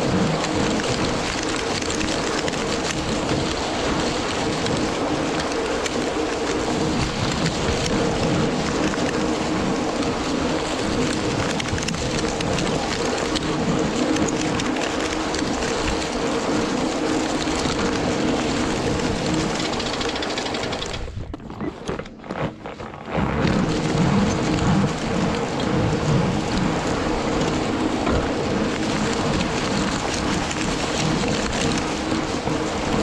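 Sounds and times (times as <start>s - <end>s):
snow crunching under rollers: 0.0s - 33.0s.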